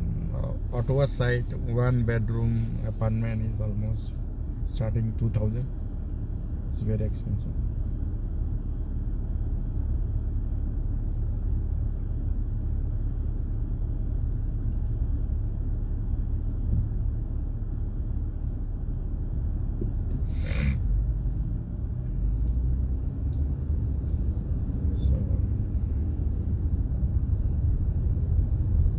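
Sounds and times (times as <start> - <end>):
car driving rumble from inside: 0.0 - 28.9.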